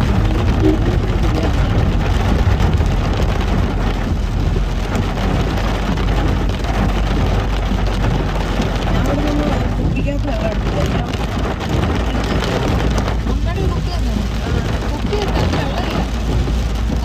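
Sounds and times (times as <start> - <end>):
engine and tyres on wet road: 0.0 - 17.0
heavy rain on a car: 0.0 - 17.0.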